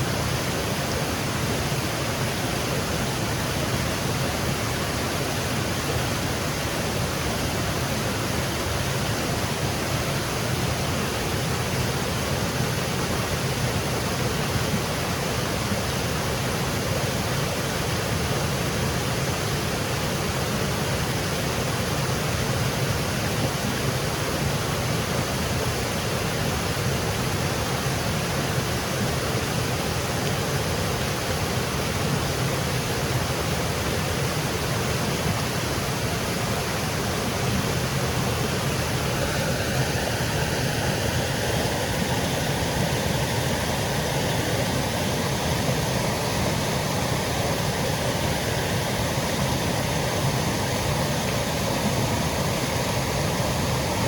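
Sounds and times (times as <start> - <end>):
water cascading over rocks: 0.0 - 54.0.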